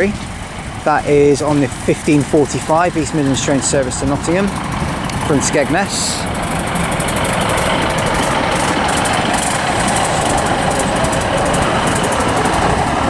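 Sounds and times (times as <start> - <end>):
diesel train engine: 0.0 - 13.0
wheels on rails: 0.0 - 13.0.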